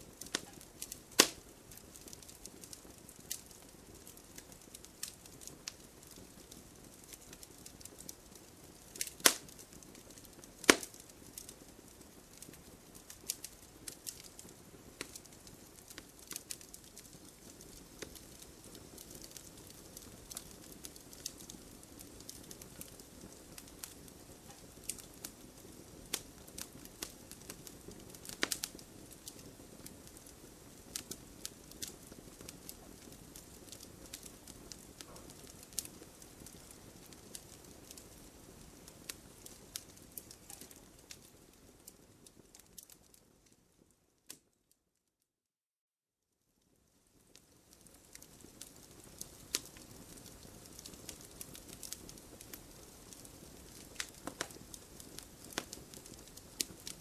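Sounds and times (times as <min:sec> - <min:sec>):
wood fire crackling: 0:00.0 - 0:44.7, 0:46.7 - 0:57.0.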